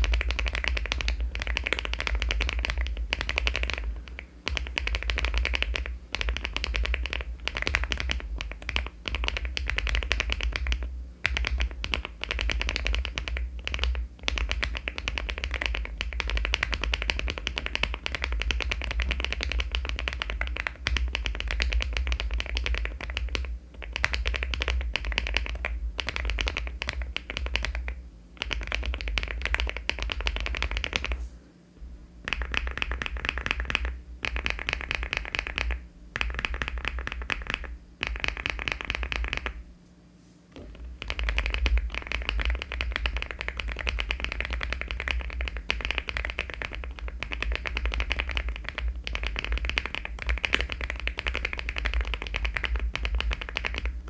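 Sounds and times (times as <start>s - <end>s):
fast typing on mechanical keyboard: 0.0s - 31.2s, 32.2s - 39.6s, 40.8s - 54.0s.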